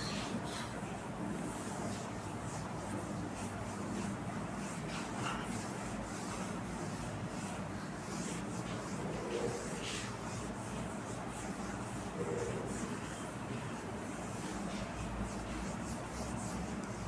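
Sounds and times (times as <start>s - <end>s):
duster rubbing on whiteboard: 0.0s - 17.0s
steady low hum: 0.0s - 17.0s.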